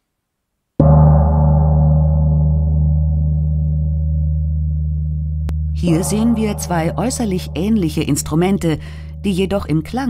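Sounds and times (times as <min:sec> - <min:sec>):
gong ringing: 0:00.8 - 0:10.0.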